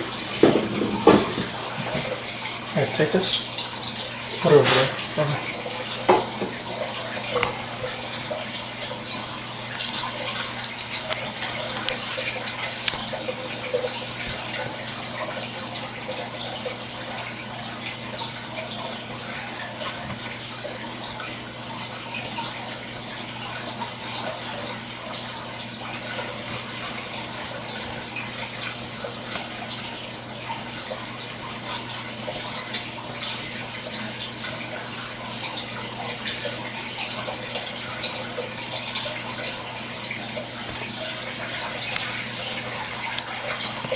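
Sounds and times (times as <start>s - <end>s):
water splashing in fish tank: 0.0s - 43.9s.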